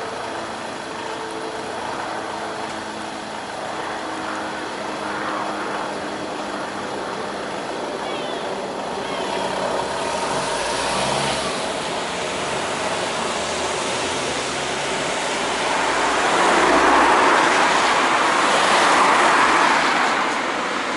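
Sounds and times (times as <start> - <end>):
road traffic passing: 0.0 - 20.9.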